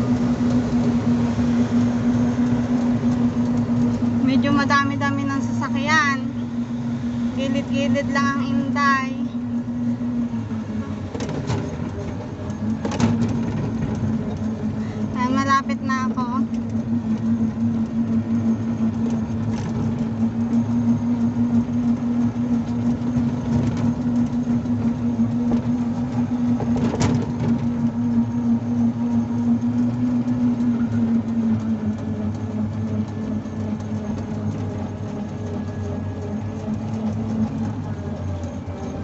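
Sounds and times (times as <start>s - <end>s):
road and wind noise: 0.0s - 39.0s
scooter motor whine: 0.0s - 39.0s.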